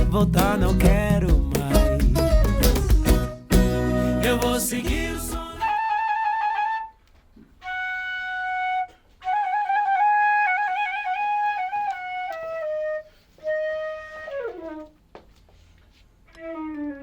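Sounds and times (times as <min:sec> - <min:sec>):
flute melody: 0:01.5 - 0:15.0, 0:16.3 - 0:17.0.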